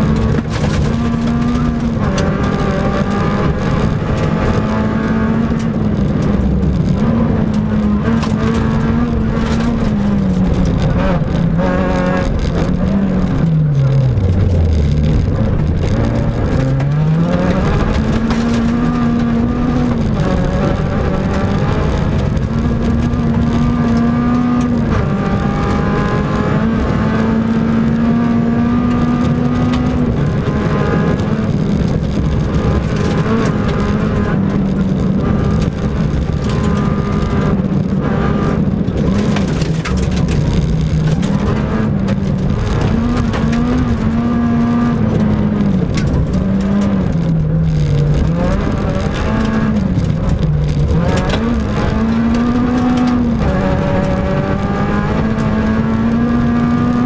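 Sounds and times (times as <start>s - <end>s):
car engine revving: 0.0s - 57.0s
gravel rattling against car: 0.0s - 57.0s.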